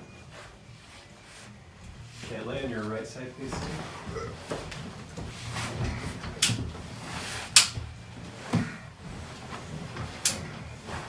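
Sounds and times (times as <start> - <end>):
padded table creaking: 0.0 - 11.0.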